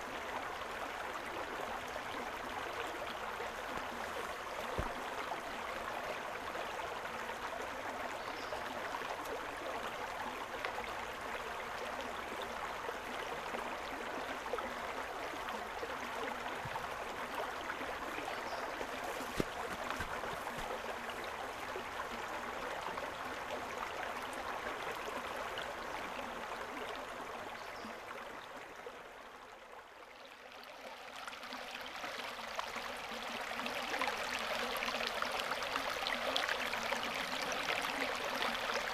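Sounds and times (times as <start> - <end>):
creek water babbling over stones: 0.0 - 38.9.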